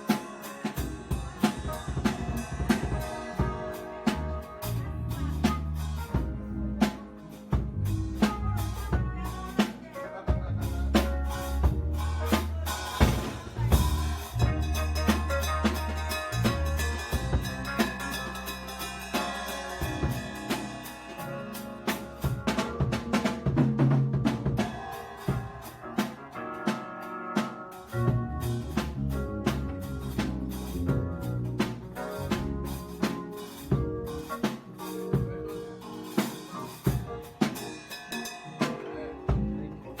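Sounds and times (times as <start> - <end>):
drum kit playing: 0.0 - 40.0
sustained bass notes: 0.7 - 35.6.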